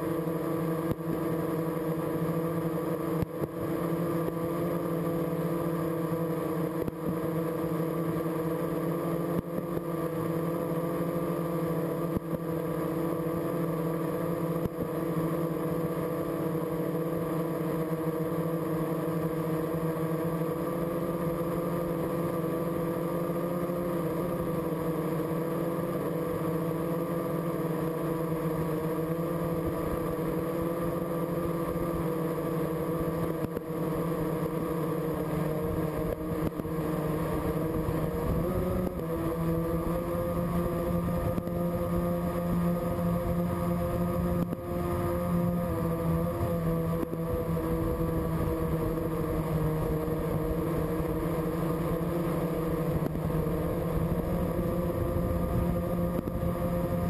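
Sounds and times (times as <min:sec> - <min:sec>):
drone propellers humming: 0:00.0 - 0:57.0.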